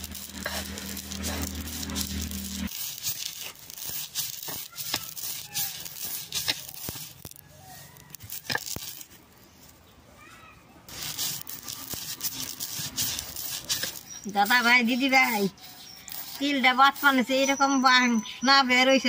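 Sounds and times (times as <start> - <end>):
stone roller grinding seeds: 0.0 - 9.6, 10.9 - 19.0.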